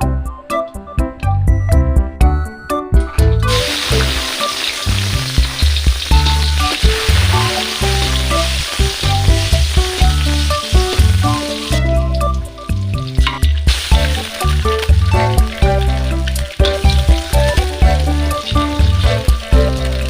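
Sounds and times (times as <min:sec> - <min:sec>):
background music: 0:00.0 - 0:20.0
food sizzling in hot oil: 0:03.4 - 0:20.0.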